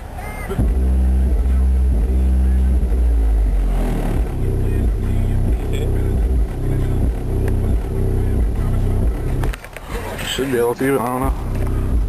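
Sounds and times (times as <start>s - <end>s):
bass-heavy music from car stereo: 0.0s - 12.0s.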